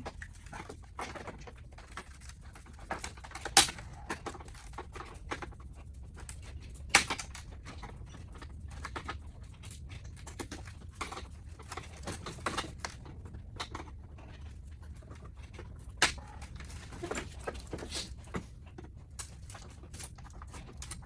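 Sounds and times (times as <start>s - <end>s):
low steady hum: 0.0s - 21.0s
plastic parts clicking and tapping: 0.0s - 21.0s.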